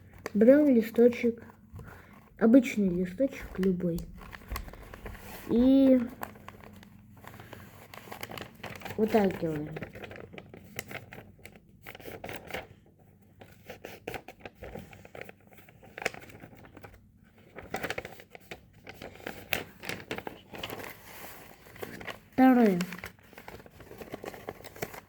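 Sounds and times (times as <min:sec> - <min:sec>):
paper rustling and crinkling: 0:00.0 - 0:25.0.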